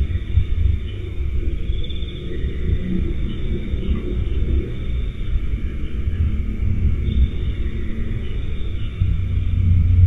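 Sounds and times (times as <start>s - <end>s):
low steady rumbling: 0.0s - 10.0s.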